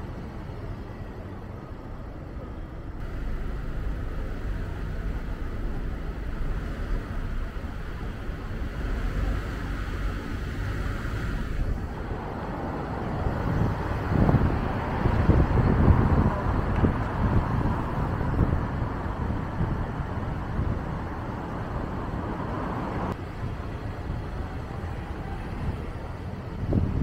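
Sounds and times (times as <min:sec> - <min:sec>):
vehicle road noise rumble: 0:00.0 - 0:27.0.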